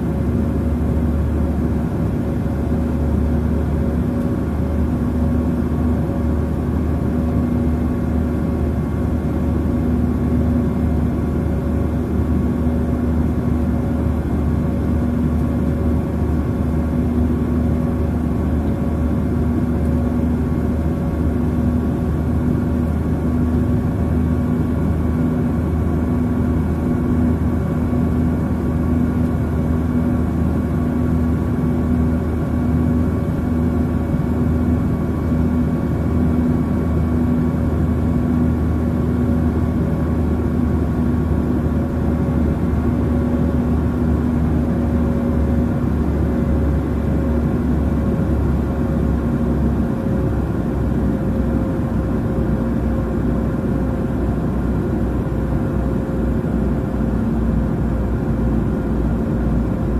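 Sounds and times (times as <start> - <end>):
constant low hum: 0.0 - 59.9.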